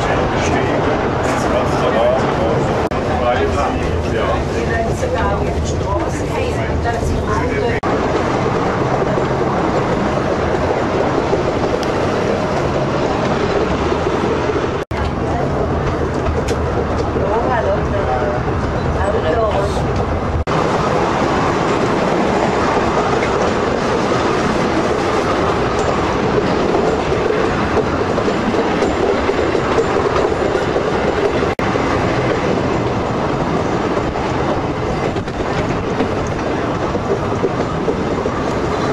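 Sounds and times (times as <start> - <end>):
train running on track: 0.0 - 38.9.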